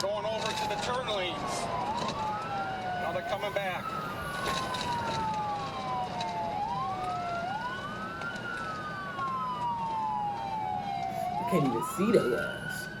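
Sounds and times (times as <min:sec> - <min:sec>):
police sirens wailing: 0:00.0 - 0:13.0.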